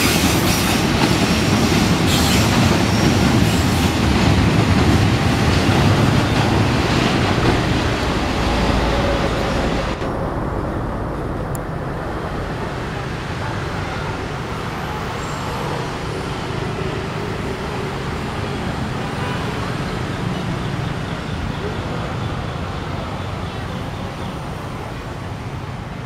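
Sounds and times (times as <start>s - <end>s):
train wagons rumbling on rails: 0.0s - 25.9s.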